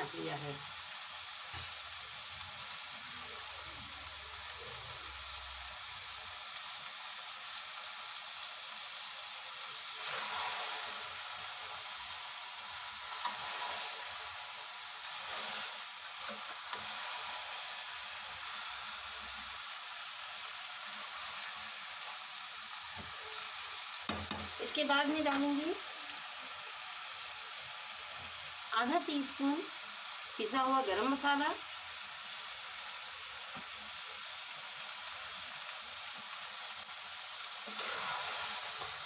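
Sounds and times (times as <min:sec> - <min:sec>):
food sizzling in a pot: 0:00.0 - 0:39.0.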